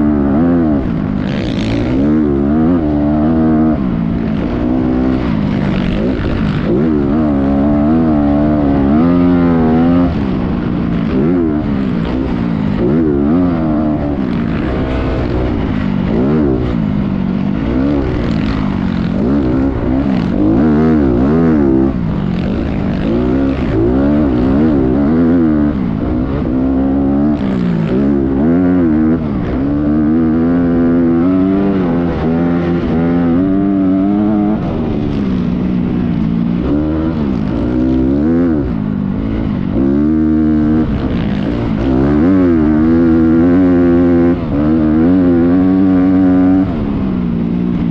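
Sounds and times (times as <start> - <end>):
motocross bike engine revving: 0.0 - 47.9.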